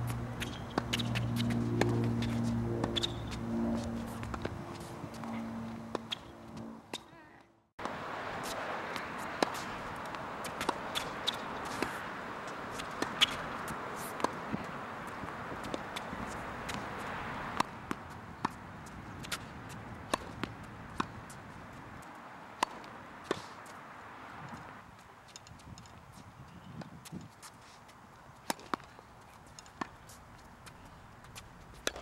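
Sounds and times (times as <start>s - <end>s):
tennis ball bouncing: 0.0s - 7.2s, 7.8s - 24.7s, 28.4s - 32.0s.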